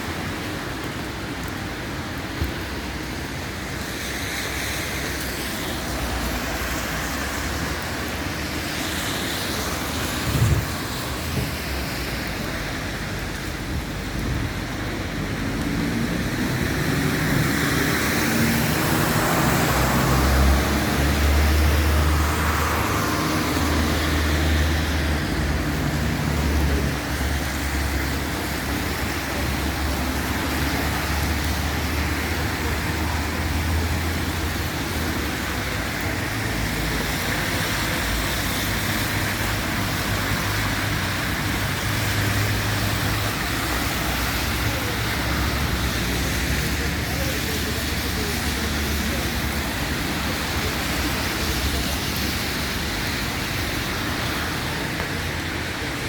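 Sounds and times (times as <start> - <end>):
road traffic in the rain: 0.0 - 56.0.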